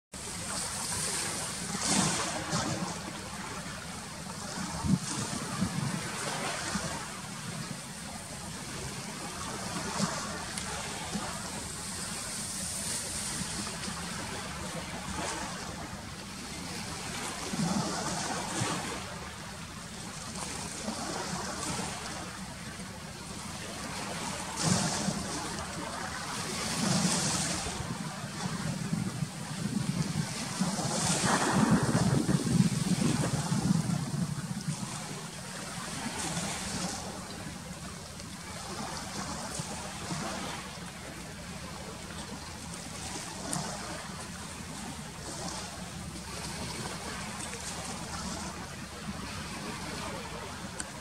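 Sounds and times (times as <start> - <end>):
lake water lapping at shore: 0.2 - 51.0
wind rumbling on microphone: 0.2 - 51.0.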